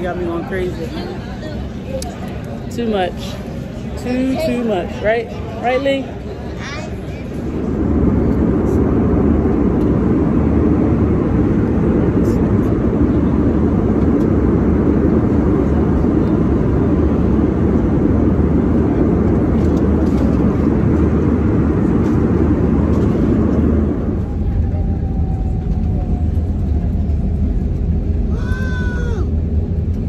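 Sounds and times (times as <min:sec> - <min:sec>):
airliner cabin engine rush: 0:00.0 - 0:30.0.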